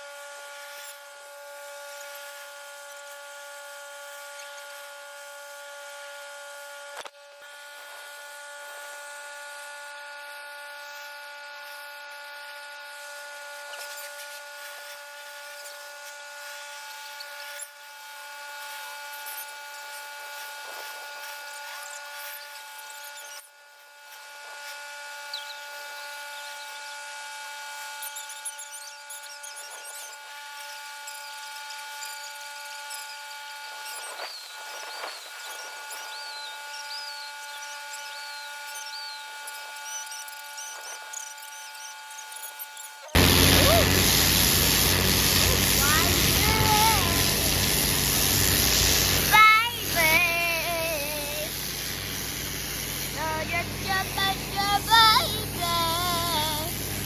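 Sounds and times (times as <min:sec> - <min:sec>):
pressure washer machine whine: 0:00.0 - 0:57.0.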